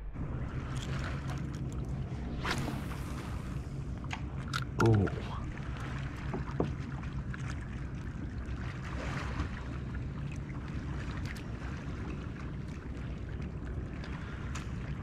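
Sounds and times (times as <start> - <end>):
steady low hum: 0.0 - 15.0
water noise: 0.0 - 15.0.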